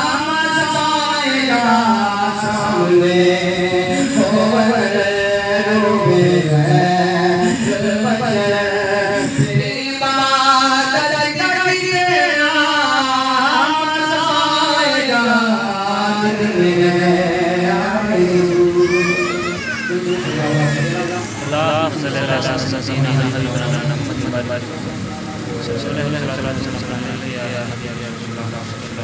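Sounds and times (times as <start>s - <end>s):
man singing a chant: 0.0s - 24.5s.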